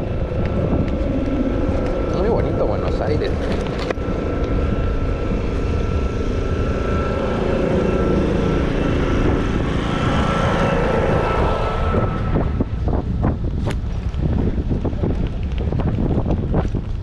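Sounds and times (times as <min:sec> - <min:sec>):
motor traffic: 0:00.0 - 0:17.0
steady whine: 0:00.0 - 0:17.0
wind buffeting microphone: 0:00.0 - 0:17.0.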